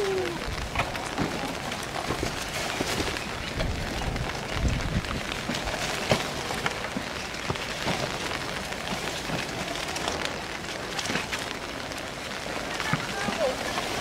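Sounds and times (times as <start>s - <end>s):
raindrops tapping close by: 0.0s - 14.0s
steady rain falling: 0.0s - 14.0s.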